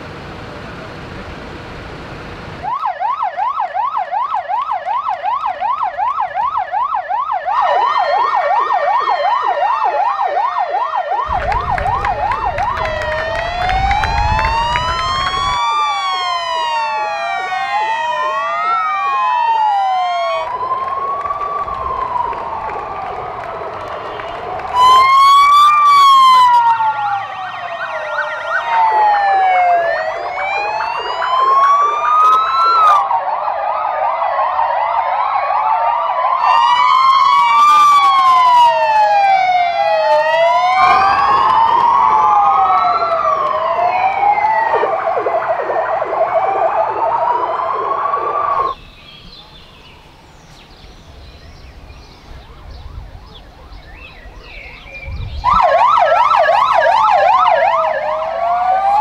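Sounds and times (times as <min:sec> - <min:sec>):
emergency sirens wailing: 0:00.0 - 0:59.0
fast pulsing siren tones: 0:02.6 - 0:48.8, 0:52.4 - 0:59.0.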